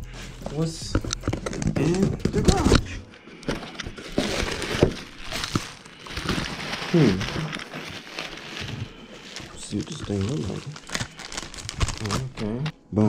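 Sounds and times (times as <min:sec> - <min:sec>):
packaging rustling and crinkling: 0:00.2 - 0:12.7.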